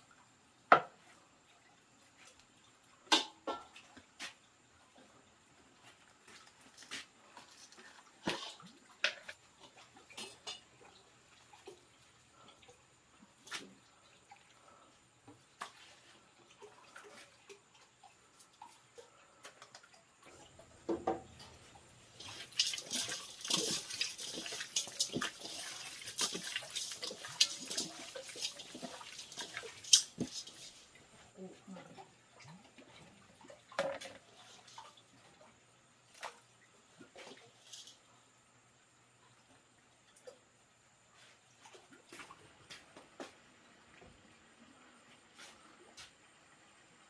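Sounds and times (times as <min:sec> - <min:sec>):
water splashing and running: 0:01.0 - 0:38.1, 0:41.2 - 0:46.4.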